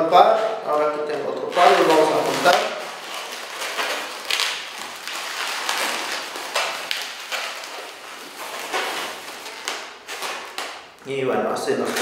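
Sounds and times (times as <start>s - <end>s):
balloons rubbing and scraping: 0.2s - 11.0s.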